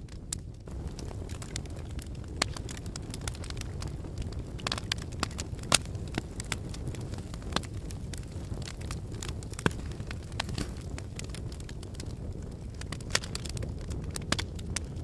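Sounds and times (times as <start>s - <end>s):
fire crackling and popping: 0.0s - 15.0s
low rumble of fire: 0.0s - 15.0s.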